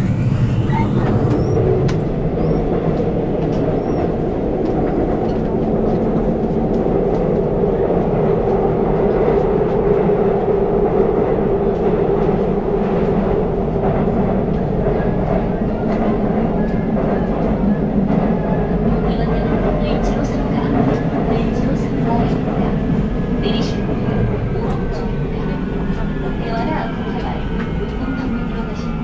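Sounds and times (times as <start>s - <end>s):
subway train rumbling on rails: 0.0s - 29.0s.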